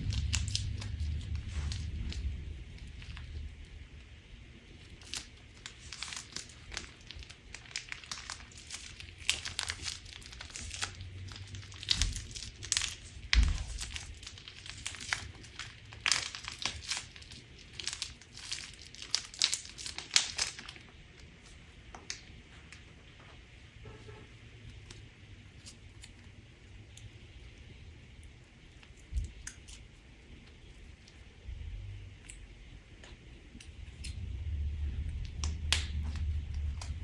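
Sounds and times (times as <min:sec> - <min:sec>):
slime crackling and crinkling: 0:00.0 - 0:23.3, 0:24.6 - 0:37.0.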